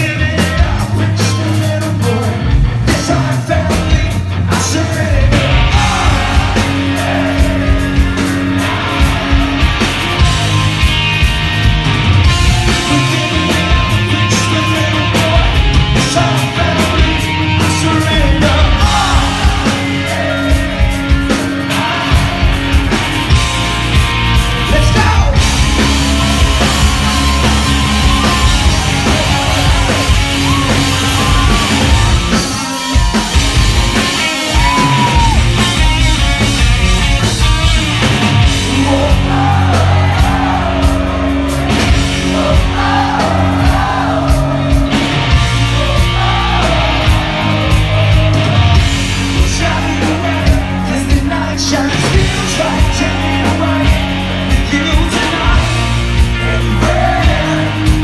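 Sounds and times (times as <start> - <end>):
man singing: 0.0 - 10.5, 12.3 - 22.8, 24.6 - 36.4, 38.0 - 58.0
live rock band playing: 0.0 - 58.0.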